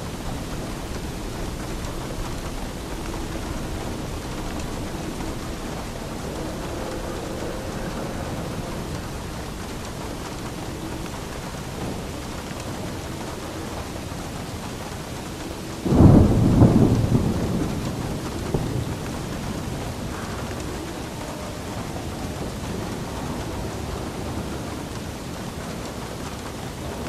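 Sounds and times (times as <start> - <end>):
steady rain: 0.0 - 27.0
thunder crack and rumble: 0.0 - 27.0.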